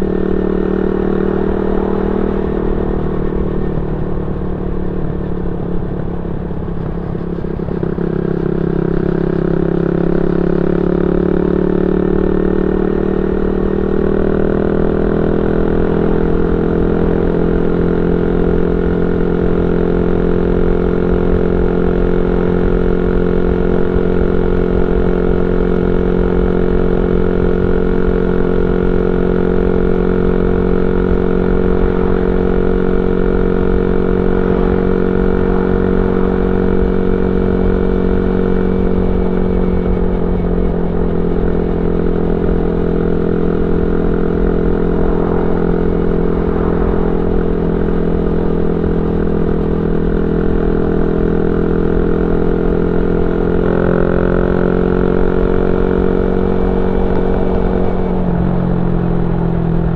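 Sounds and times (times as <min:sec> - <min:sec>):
motorcycle engine while riding: 0:00.0 - 0:59.9.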